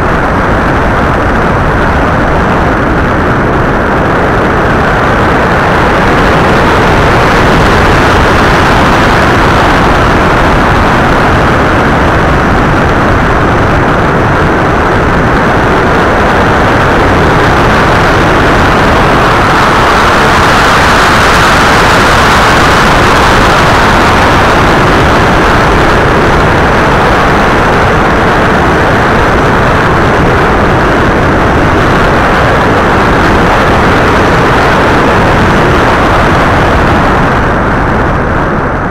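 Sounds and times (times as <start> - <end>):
wind and propeller noise: 0.0 - 38.9.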